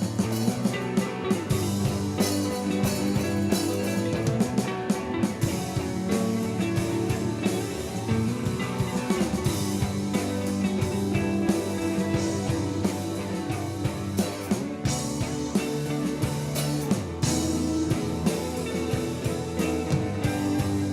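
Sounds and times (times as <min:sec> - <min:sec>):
rock band playing: 0:00.0 - 0:20.9.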